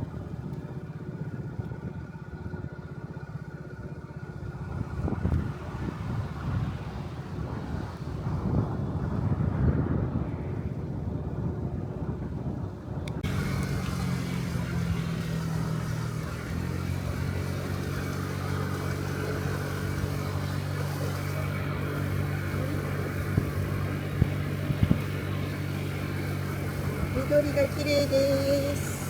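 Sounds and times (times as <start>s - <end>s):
scooter engine cruising: 0.0s - 29.0s
wind rumble on microphone: 0.0s - 29.0s.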